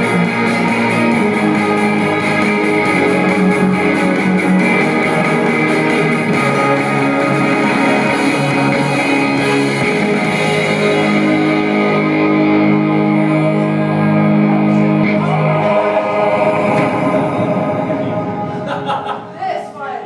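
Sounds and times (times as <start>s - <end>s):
guitar chords: 0.0s - 19.2s.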